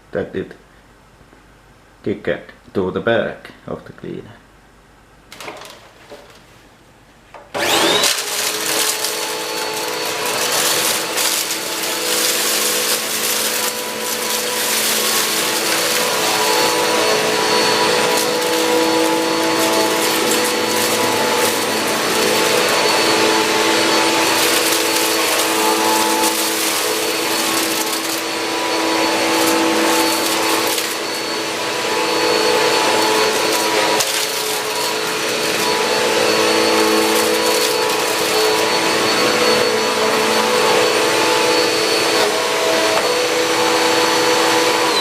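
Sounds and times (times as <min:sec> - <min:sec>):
vacuum cleaner motor running: 0:07.5 - 0:45.0.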